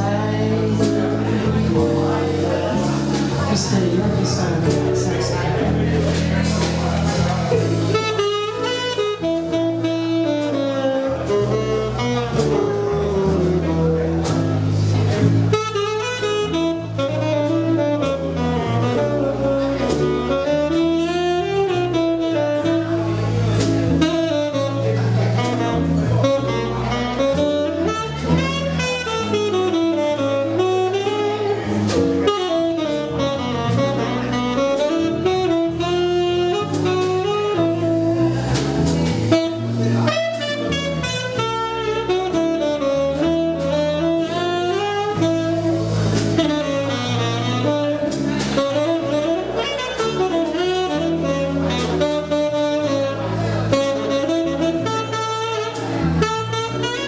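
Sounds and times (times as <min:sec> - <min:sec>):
jazz band accompaniment: 0:00.0 - 0:57.0
tenor saxophone with vibrato: 0:00.0 - 0:57.0.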